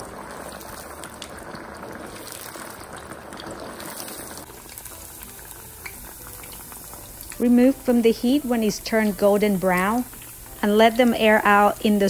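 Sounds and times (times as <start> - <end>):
oil bubbling and crackling: 0.0 - 12.0.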